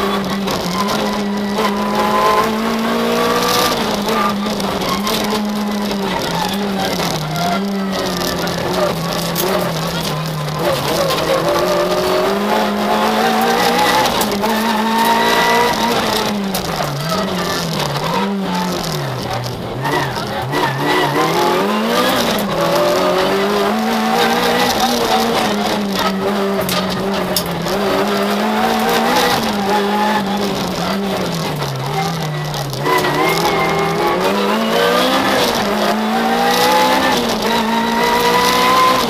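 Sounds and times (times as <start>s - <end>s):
car engine at high revs: 0.0s - 39.0s.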